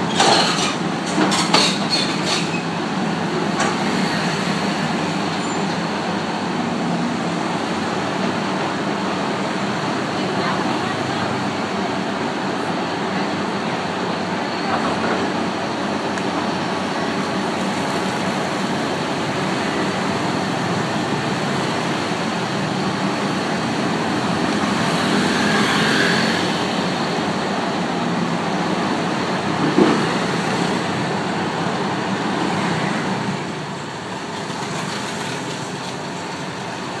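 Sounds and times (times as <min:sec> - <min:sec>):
street traffic: 0:00.0 - 0:37.0.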